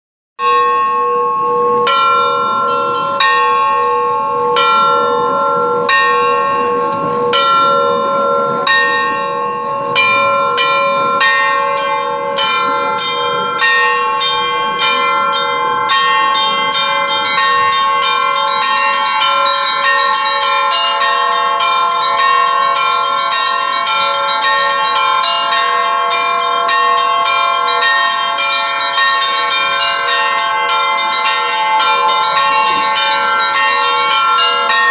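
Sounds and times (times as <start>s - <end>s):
church bells pealing: 0.4s - 34.9s.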